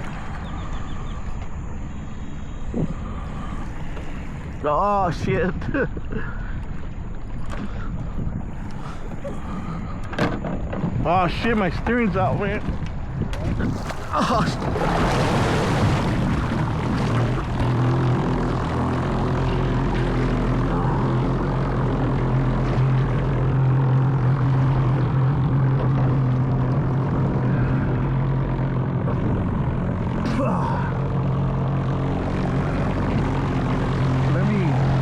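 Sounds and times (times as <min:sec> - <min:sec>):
water and wind wash: 0:00.0 - 0:35.0.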